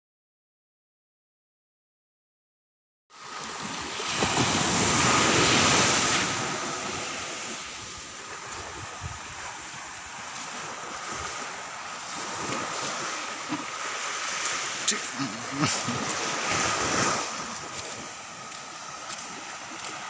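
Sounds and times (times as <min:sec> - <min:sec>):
small waves breaking on beach: 0:03.1 - 0:20.0.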